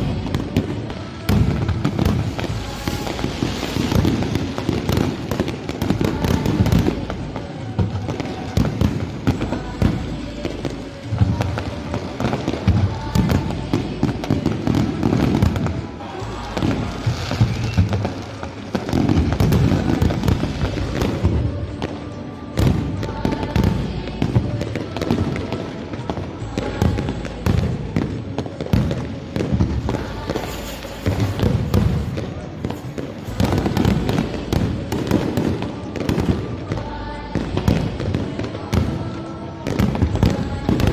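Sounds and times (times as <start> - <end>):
fireworks bangs and crackles: 0.0 - 40.9
music: 0.0 - 40.9
voices: 0.0 - 40.9.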